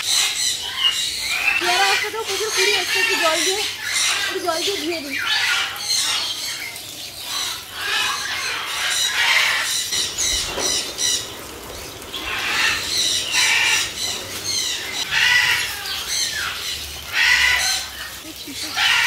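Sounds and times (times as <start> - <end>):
parrots squawking: 0.0 - 19.0.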